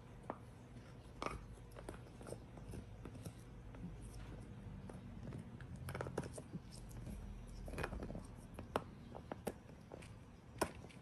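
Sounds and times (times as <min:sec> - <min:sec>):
dog gnawing hard object: 0:00.8 - 0:11.0.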